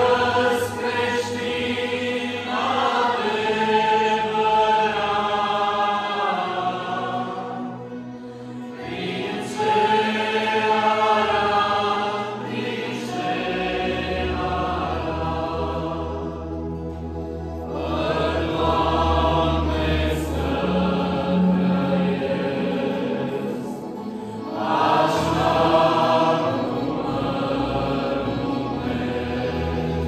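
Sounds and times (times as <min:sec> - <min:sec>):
group singing a hymn: 0:00.0 - 0:30.0.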